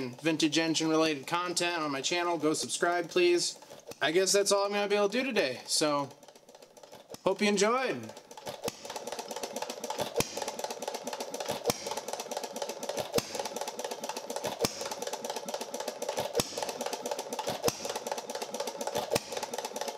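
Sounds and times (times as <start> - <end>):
gas engine clattering: 0.0 - 19.9.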